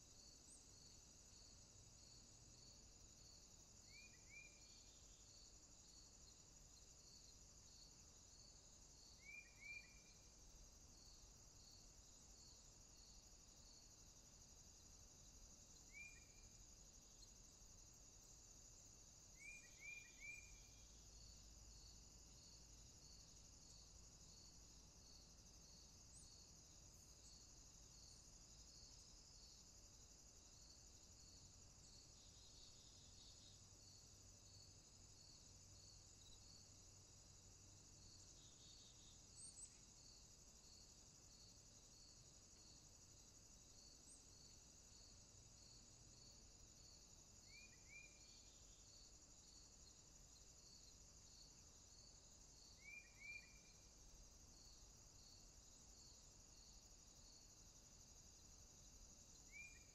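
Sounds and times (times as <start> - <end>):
crickets and insects chorus: 0.0 - 59.9.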